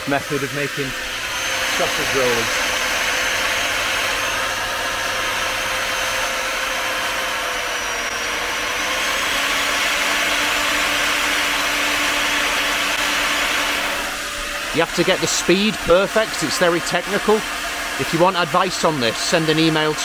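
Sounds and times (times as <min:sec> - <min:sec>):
electric sander grinding foam: 0:00.0 - 0:20.0.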